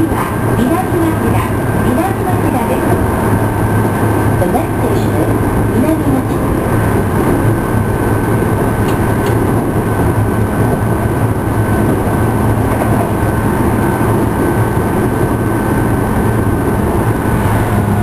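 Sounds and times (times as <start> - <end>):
low hum: 0.0 - 18.0
train wheels rumbling on rail: 0.0 - 18.0.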